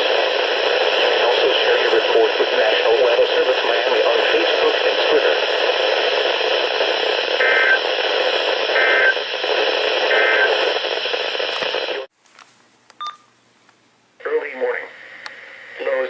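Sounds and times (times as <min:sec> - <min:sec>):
radio static hiss: 0:00.0 - 0:12.1, 0:14.2 - 0:16.0.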